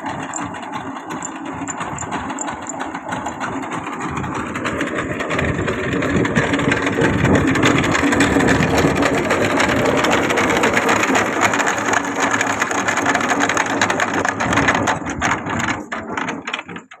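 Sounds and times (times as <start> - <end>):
engine chugging with rattle: 0.0 - 17.0.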